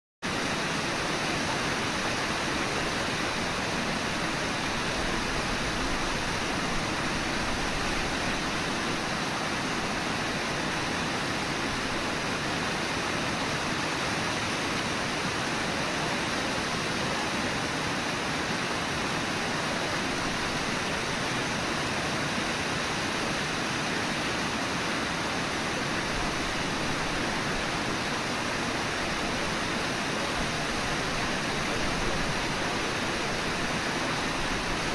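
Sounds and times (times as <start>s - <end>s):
whitewater rushing: 0.3s - 34.9s.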